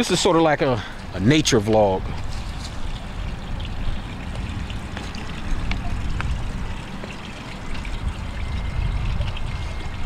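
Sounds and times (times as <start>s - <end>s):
breeze rumbling on microphone: 1.3s - 10.0s.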